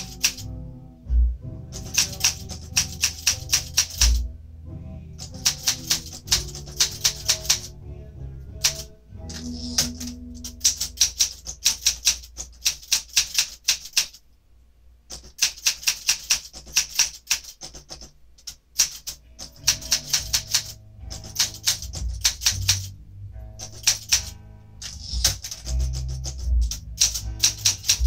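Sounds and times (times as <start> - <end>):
typewriter carriage return: 0.0 - 0.4, 1.8 - 4.2, 5.2 - 7.7, 8.6 - 14.2, 15.1 - 22.9, 23.6 - 28.0
typewriter typebar clacks: 0.0 - 0.4, 1.8 - 4.2, 5.2 - 7.7, 8.6 - 14.2, 15.1 - 22.9, 23.6 - 28.0.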